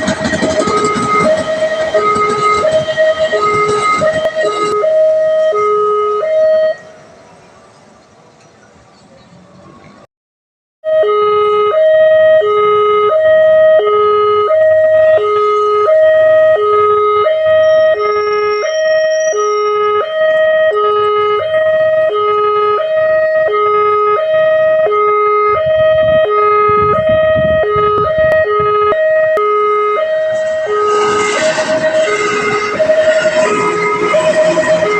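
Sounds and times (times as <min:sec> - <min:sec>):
two-tone level crossing alarm: 0:00.0 - 0:07.0, 0:10.8 - 0:34.9.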